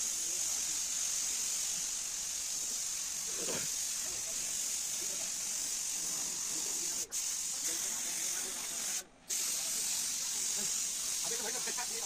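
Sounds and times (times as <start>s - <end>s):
air spray gun hissing: 0.0s - 12.0s.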